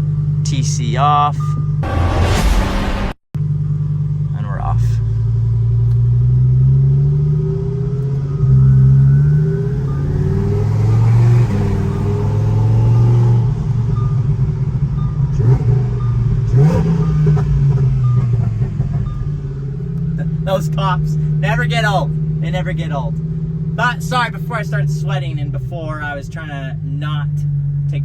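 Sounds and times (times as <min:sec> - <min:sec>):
car engine accelerating: 0:01.6 - 0:28.0.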